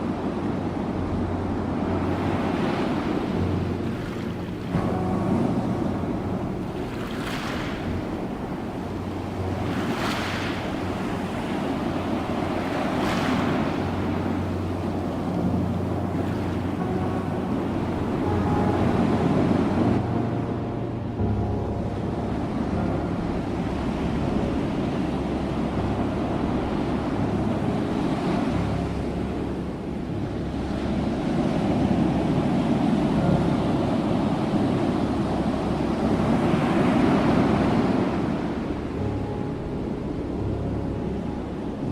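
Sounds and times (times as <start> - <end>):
low rumble of surf: 0.0 - 41.9
ocean waves breaking: 0.0 - 41.9
wind on microphone: 0.0 - 41.9.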